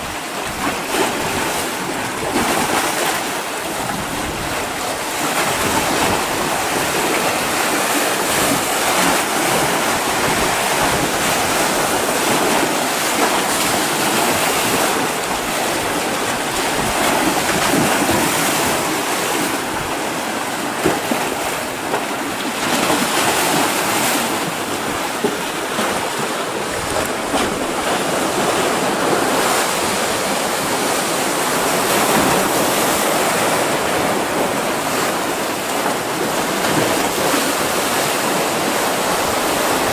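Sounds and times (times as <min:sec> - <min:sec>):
sea waves splashing on boulders: 0:00.0 - 0:39.9.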